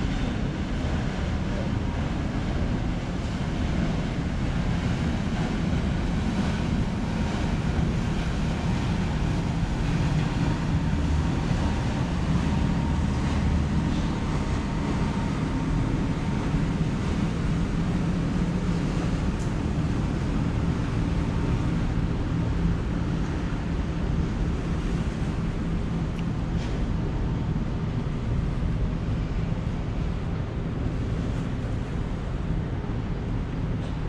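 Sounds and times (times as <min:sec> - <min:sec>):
sea wash: 0:00.0 - 0:34.0
ship engine rumble: 0:00.0 - 0:34.0
wind buffeting microphone: 0:00.0 - 0:34.0.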